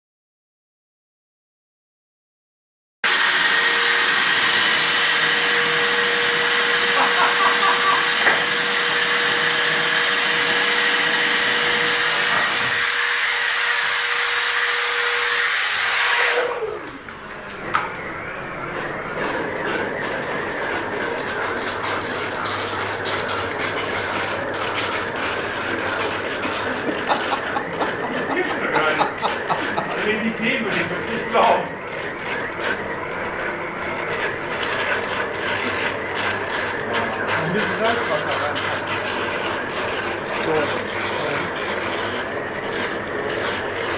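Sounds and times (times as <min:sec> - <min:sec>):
drilling machine motor whining: 0:03.0 - 0:43.9.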